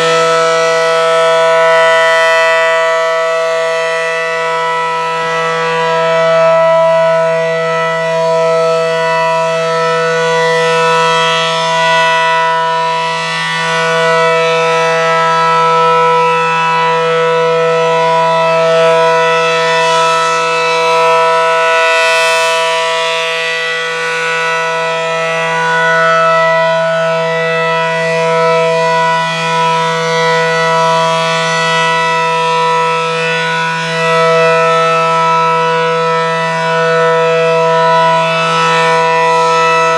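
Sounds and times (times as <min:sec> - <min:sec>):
low-pitched warning siren: 0:00.0 - 0:39.9.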